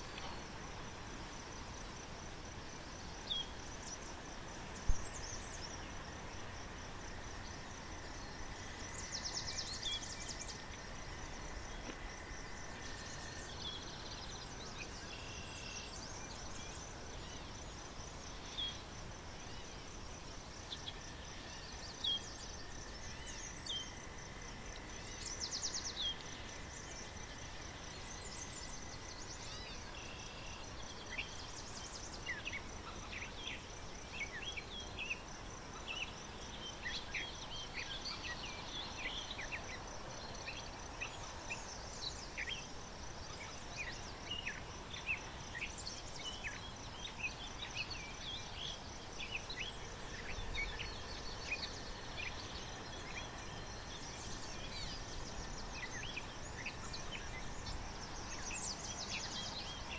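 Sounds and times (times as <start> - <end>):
high-pitched rapid insect trill: 0.0 - 59.9.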